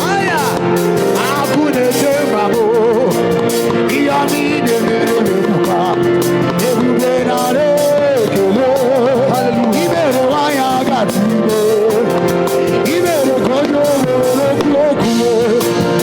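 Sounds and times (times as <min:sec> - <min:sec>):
live gospel band music: 0:00.0 - 0:16.0.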